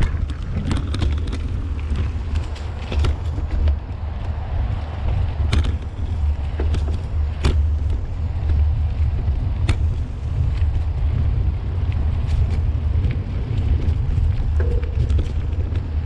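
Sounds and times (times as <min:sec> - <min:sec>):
bike clicks and rattles: 0:00.0 - 0:16.0
bike tyres rumbling on dirt: 0:00.0 - 0:16.0.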